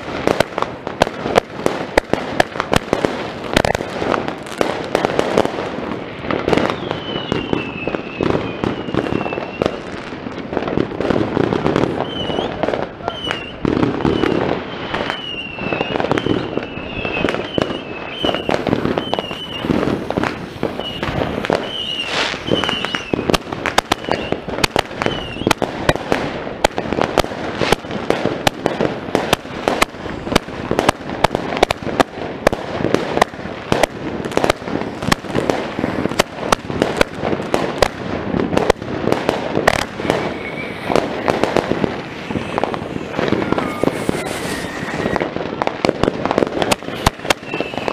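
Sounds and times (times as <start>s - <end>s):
firework bangs and crackling: 0.0s - 47.9s
firework whistles: 2.7s - 32.1s, 38.5s - 47.9s.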